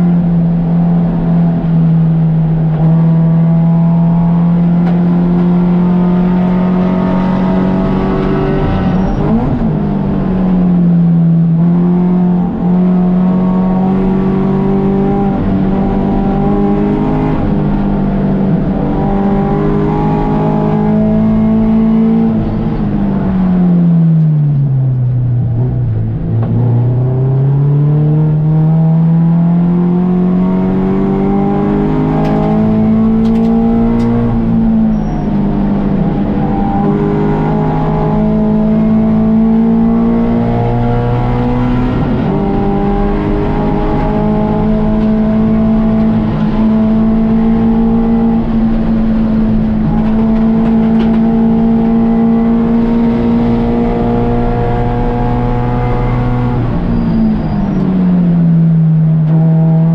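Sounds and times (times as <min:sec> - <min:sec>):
race car engine revving: 0:00.0 - 0:24.6, 0:25.5 - 0:59.9.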